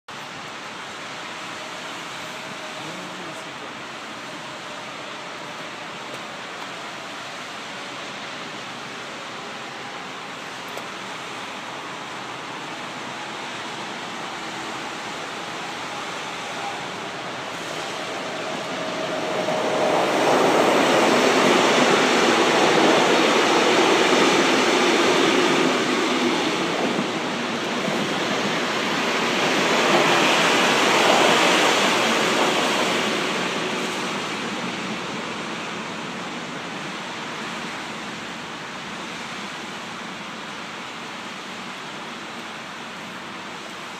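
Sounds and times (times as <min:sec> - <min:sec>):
passenger train passing: 0:00.1 - 0:43.9.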